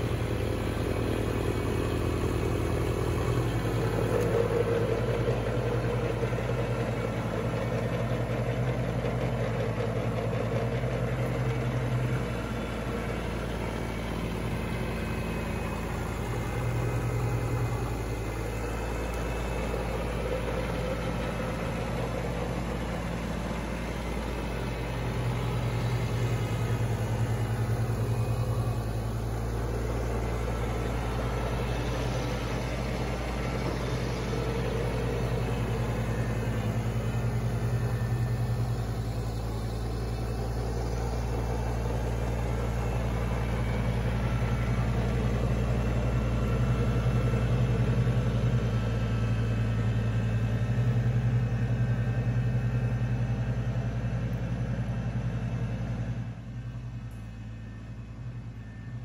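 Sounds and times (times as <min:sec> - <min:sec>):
tractor engine hum: 0:00.0 - 0:59.0.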